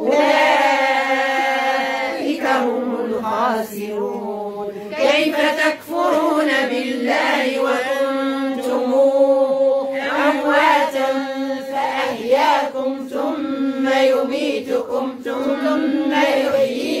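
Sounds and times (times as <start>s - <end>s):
women chanting in unison: 0.0s - 17.0s.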